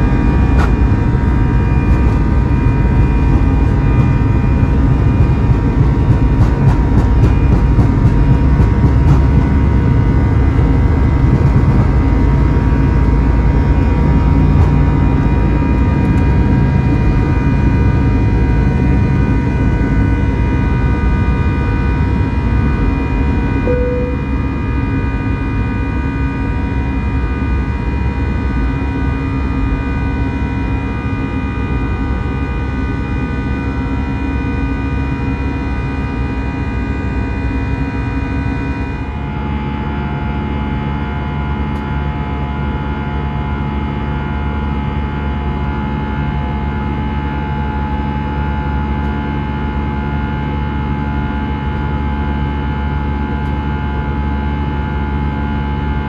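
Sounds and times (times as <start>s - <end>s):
airplane cabin engine hum: 0.0s - 56.0s.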